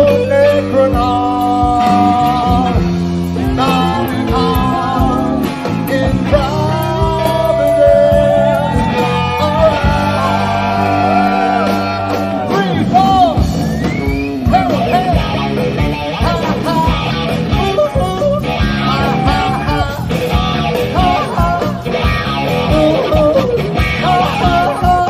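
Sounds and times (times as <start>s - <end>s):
person singing: 0.0s - 13.4s, 14.4s - 25.0s
electric guitar: 0.0s - 25.0s
live rock band: 0.0s - 25.0s.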